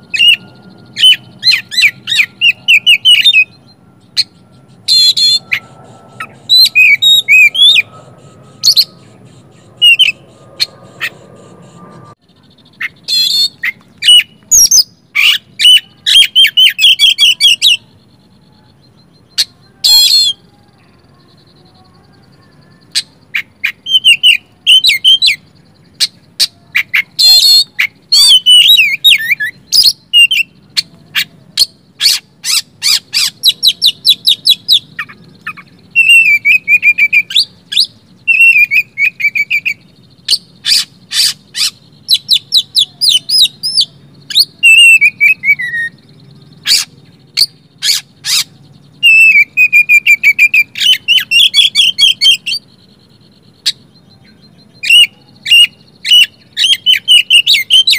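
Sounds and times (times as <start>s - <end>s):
songbird singing whistles and trills: 0.0s - 57.9s.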